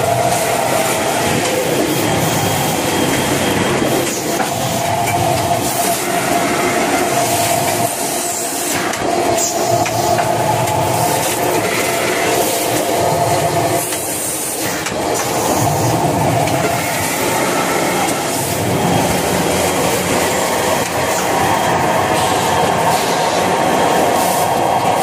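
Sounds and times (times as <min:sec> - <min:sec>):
packing machine running: 0:00.0 - 0:25.0.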